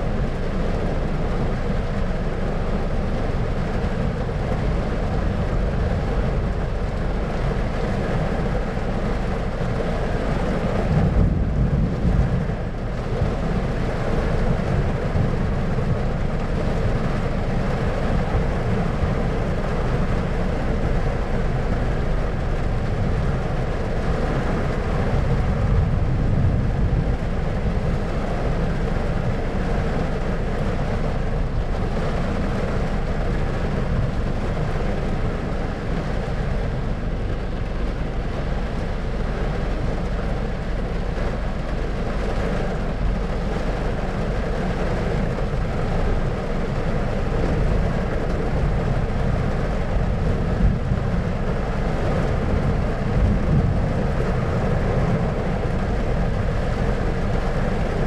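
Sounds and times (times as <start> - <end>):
low rumbling noise: 0.0 - 58.0.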